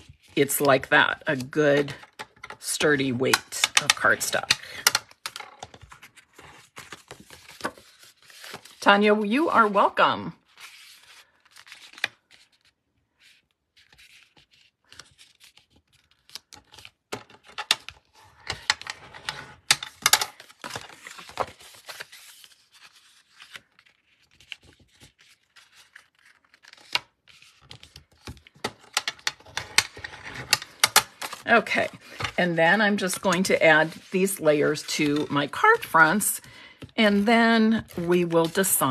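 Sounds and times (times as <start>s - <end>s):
paper cards rustling and tapping: 0.0s - 8.8s, 10.6s - 38.9s.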